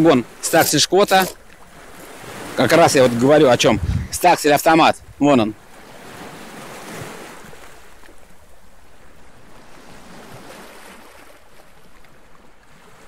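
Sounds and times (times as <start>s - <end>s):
sea water rushing: 0.0s - 11.6s
wind: 0.0s - 13.0s.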